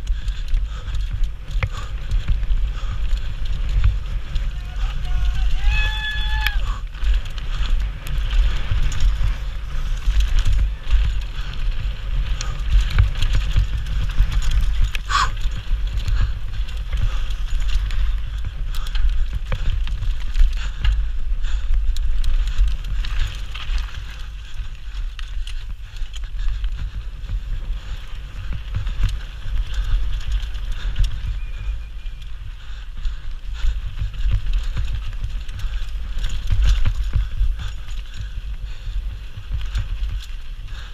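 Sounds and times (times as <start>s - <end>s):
bike tyres rolling and rattling: 0.0s - 40.9s
wind rumble on microphone: 0.0s - 40.9s.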